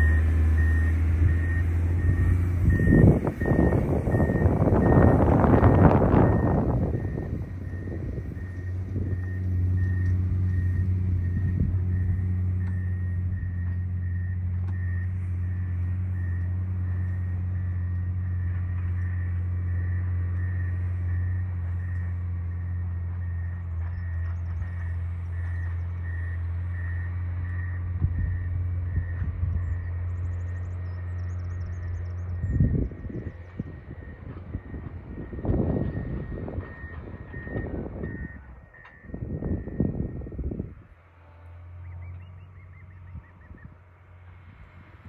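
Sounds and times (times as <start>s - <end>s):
reversing alarm beeping: 0.0s - 40.8s
diesel engine running: 0.0s - 45.0s.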